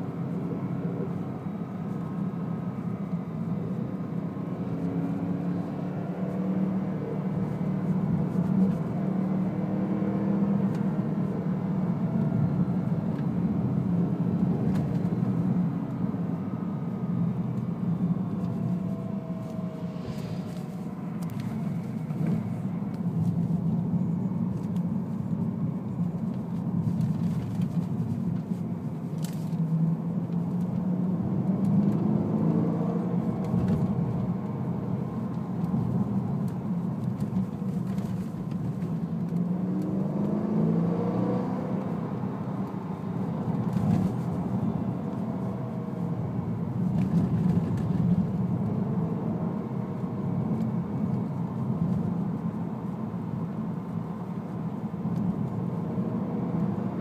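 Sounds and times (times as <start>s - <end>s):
road noise: 0.0s - 57.0s
car engine accelerating: 0.1s - 57.0s.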